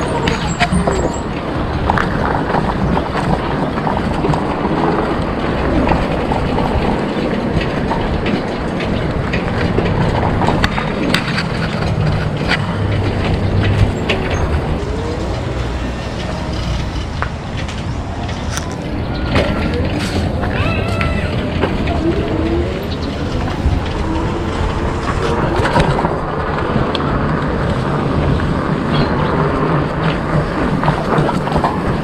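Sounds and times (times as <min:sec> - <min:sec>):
knocks and rattles: 0:00.0 - 0:32.0
wind and road rumble: 0:00.0 - 0:32.0.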